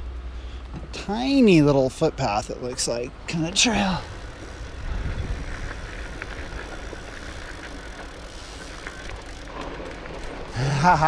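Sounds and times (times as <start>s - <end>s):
bike tyres rumbling on dirt: 0.9s - 11.0s.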